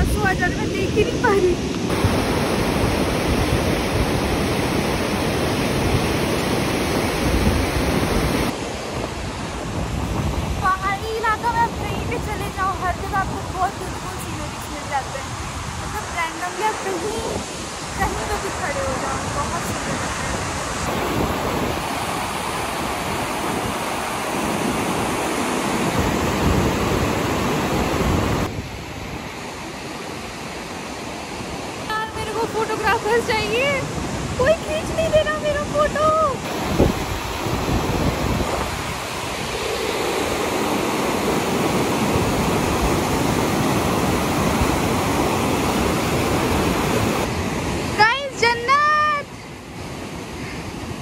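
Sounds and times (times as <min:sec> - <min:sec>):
wind buffeting microphone: 0:00.0 - 0:51.0
river rushing over rocks: 0:01.1 - 0:48.5.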